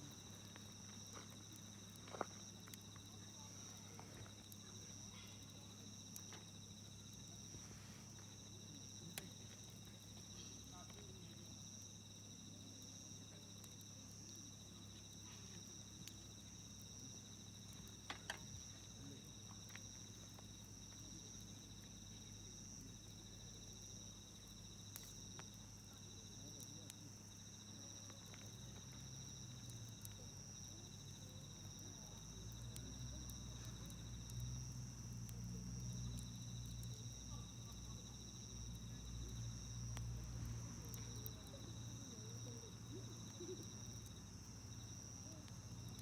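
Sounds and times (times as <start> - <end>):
campfire crackling and popping: 0.0 - 46.0
insects chirring: 0.0 - 46.0.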